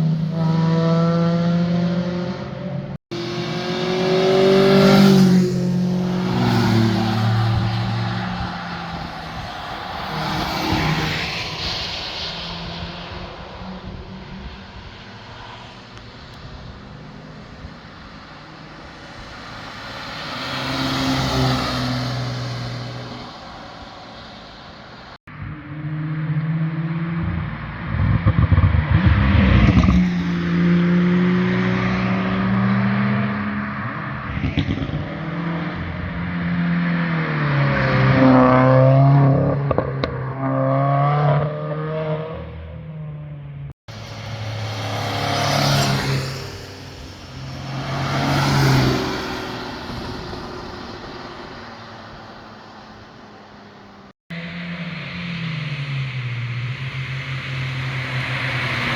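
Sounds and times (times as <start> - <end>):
sports cars revving past: 0.0 - 24.8, 25.6 - 43.3, 43.9 - 58.9.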